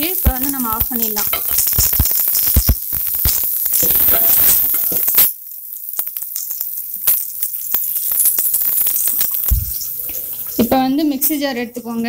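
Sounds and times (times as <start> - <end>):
oil sizzling in a pot: 0.0 - 11.5.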